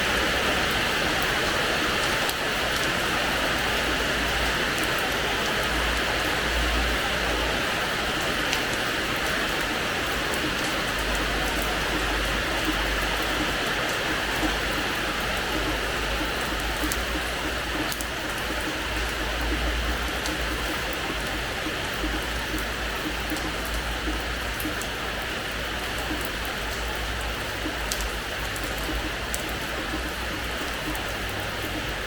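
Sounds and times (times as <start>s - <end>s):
rain on a hard floor: 0.0s - 32.0s.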